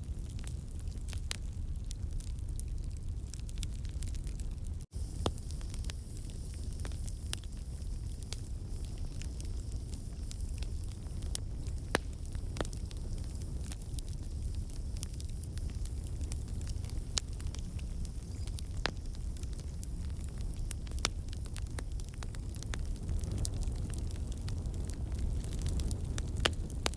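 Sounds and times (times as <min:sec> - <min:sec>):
logs crackling and popping: 0:00.0 - 0:26.9
low rumble of flames: 0:00.0 - 0:26.9.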